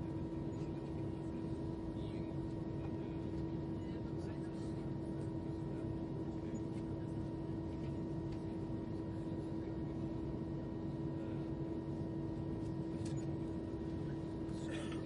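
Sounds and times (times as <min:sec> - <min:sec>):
jet airliner cabin drone: 0:00.0 - 0:15.0.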